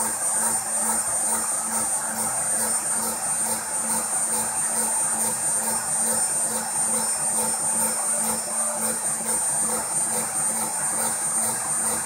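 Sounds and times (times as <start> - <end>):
rotary tool spindle whining: 0.0 - 12.0.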